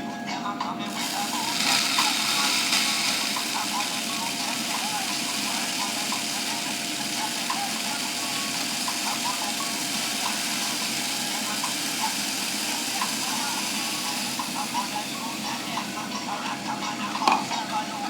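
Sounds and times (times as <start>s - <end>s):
machine motor hum: 0.8s - 18.0s.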